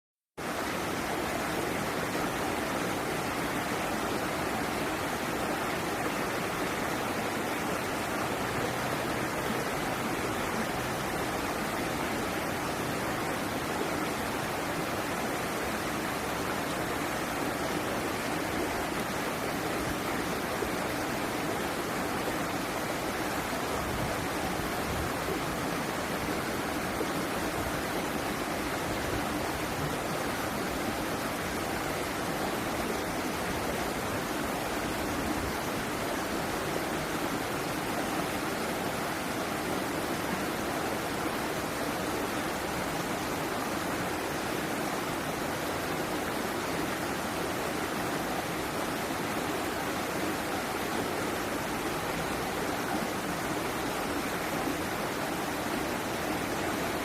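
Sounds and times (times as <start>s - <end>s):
water rushing steadily: 0.4s - 57.0s.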